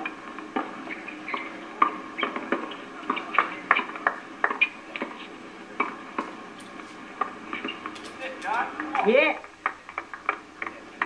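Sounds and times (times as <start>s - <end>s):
tennis rackets hitting balls: 0.0s - 11.0s.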